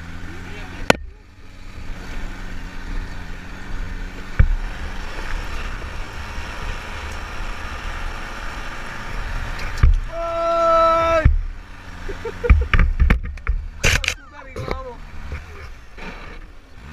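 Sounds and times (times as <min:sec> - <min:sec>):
buggy engine: 0:00.0 - 0:16.9.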